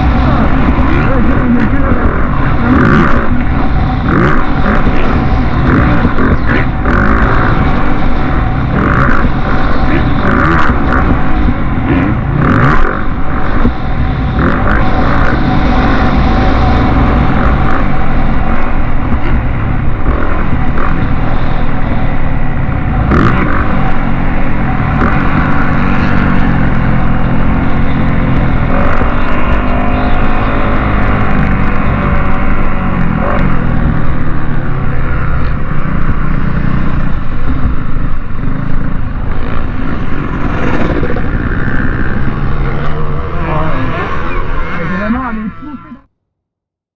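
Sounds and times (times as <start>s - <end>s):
motorcycle engines revving: 0.0s - 46.1s.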